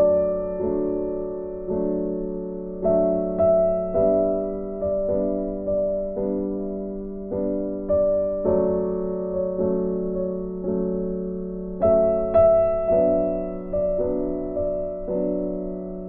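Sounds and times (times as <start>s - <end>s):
gentle piano chords: 0.0s - 16.0s.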